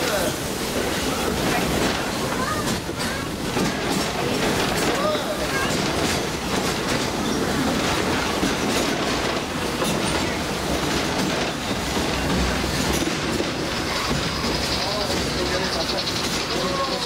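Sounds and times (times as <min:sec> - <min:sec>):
train rumbling along track: 0:00.0 - 0:17.0
wheels clicking over rails: 0:00.0 - 0:17.0.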